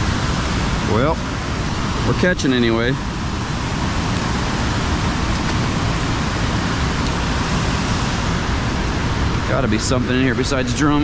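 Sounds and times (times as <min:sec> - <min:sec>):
water churning through spillway: 0:00.0 - 0:11.0.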